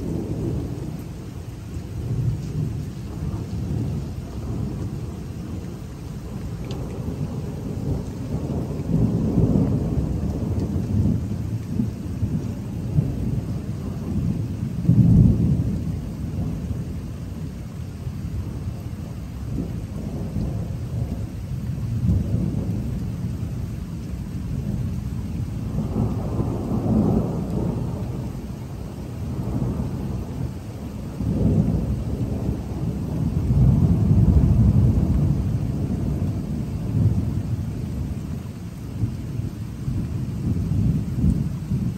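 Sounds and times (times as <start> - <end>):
steady rain: 0.0 - 41.9
thunder rumbling: 0.0 - 41.9.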